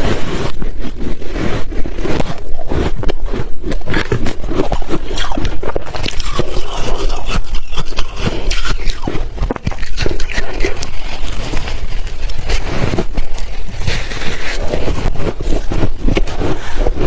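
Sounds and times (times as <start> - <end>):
chewing crunchy ice: 3.2 - 17.0.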